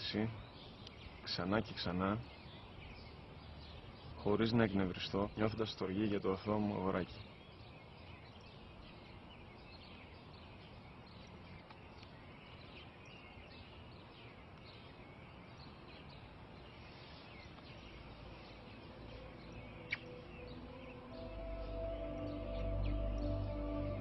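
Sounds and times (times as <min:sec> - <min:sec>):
small birds chirping: 0:00.0 - 0:24.0
steady outdoor hiss: 0:00.0 - 0:24.0.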